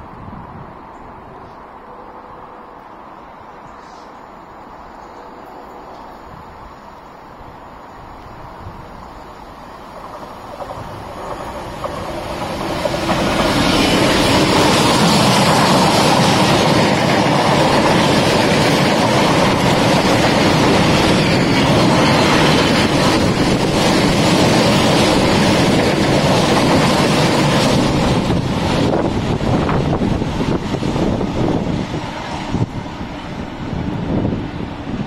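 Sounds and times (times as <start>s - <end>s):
diesel locomotive passing: 0.0s - 35.0s.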